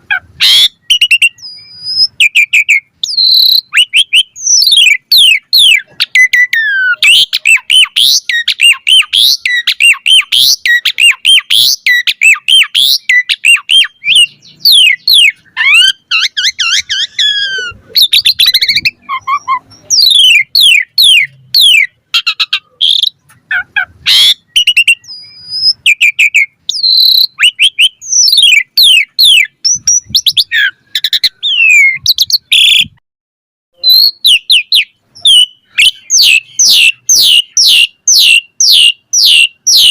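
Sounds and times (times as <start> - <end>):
starling singing whistles: 0.4 - 23.2, 24.1 - 33.0, 33.8 - 39.9.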